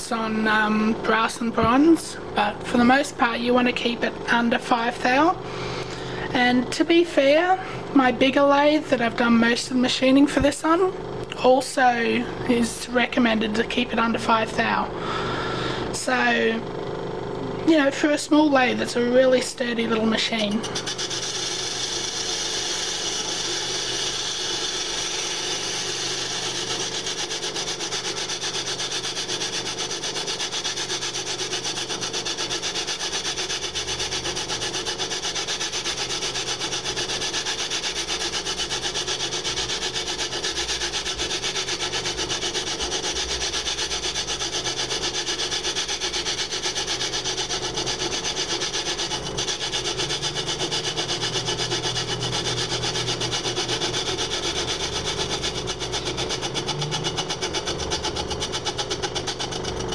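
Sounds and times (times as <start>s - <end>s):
lathe motor hum: 0.0s - 59.9s
lathe tool scraping metal: 11.6s - 59.9s.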